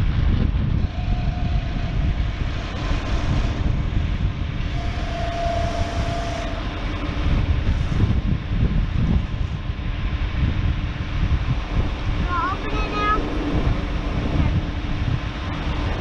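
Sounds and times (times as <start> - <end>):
thin whine: 0.0 - 16.0.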